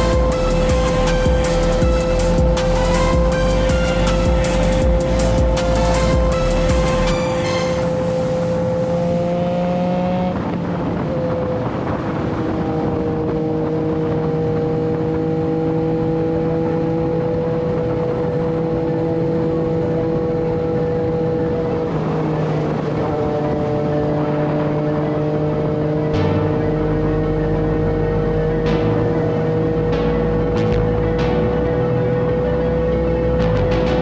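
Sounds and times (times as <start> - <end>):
motorcycle engine cruising: 0.0 - 34.0
road and wind noise: 0.0 - 34.0.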